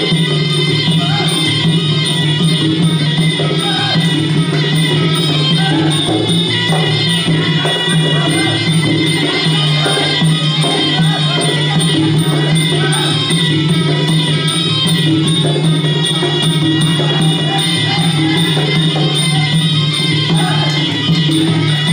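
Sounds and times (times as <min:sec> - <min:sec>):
small cymbals: 0:00.0 - 0:21.9.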